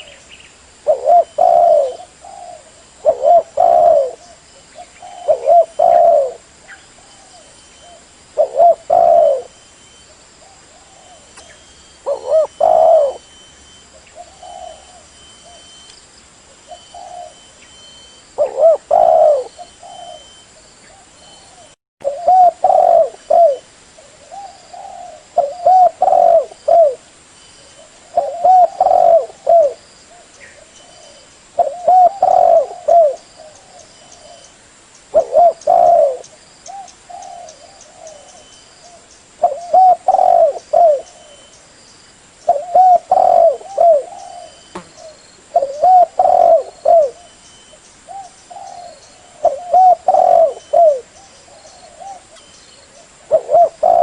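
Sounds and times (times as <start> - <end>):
dove cooing: 0.8 - 9.6, 10.4 - 15.7, 16.6 - 27.0, 27.6 - 34.5, 35.1 - 41.5, 42.5 - 47.4, 48.1 - 54.0.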